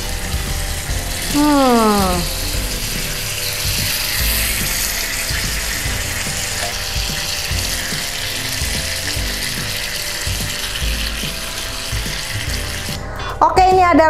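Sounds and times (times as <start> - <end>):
background music with steady beat: 0.0 - 14.0.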